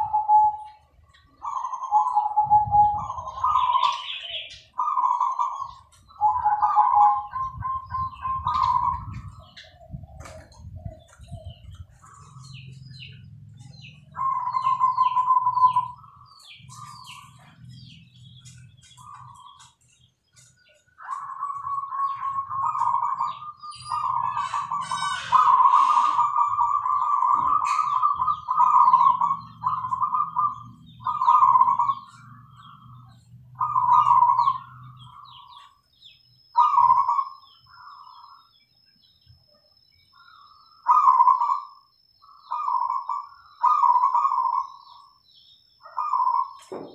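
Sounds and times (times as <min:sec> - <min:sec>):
doves cooing: 0:00.0 - 0:38.6, 0:40.1 - 0:45.2, 0:45.8 - 0:46.9
small birds chirping: 0:00.0 - 0:46.9.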